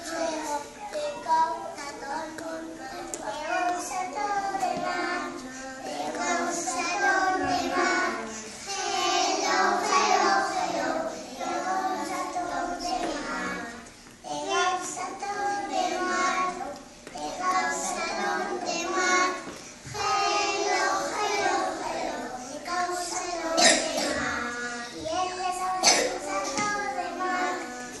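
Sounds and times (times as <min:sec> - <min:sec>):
children singing together: 0:00.0 - 0:28.0.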